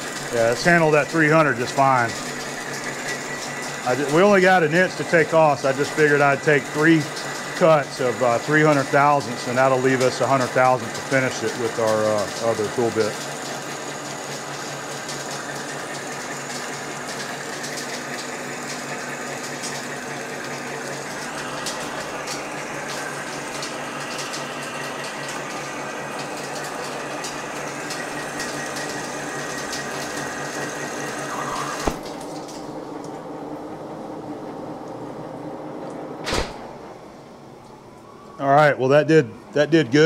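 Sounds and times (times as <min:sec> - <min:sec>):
lathe cutting steel: 0:00.0 - 0:32.6
coolant splashing: 0:00.0 - 0:35.1.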